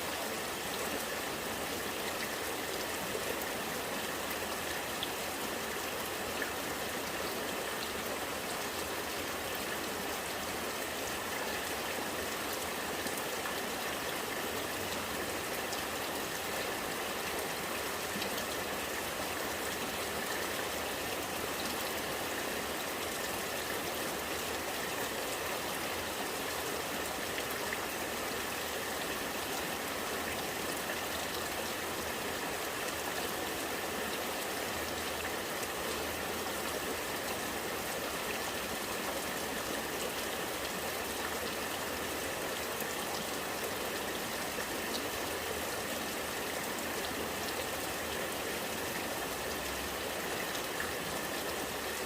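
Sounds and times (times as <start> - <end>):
rainwater running and gurgling: 0.0 - 52.0.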